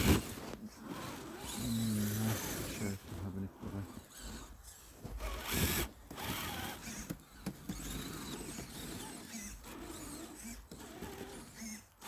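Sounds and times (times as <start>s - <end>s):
electric motor and gearbox whining: 0.0s - 12.0s.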